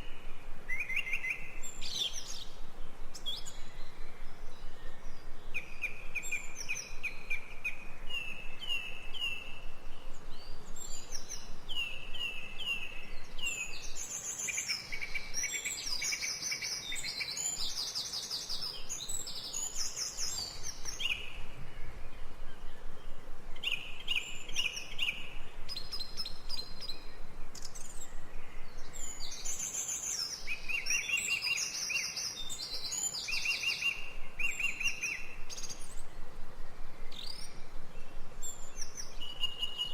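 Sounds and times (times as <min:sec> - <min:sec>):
birds chirping and trilling: 0:00.0 - 0:39.9
faint steady hiss: 0:00.0 - 0:39.9.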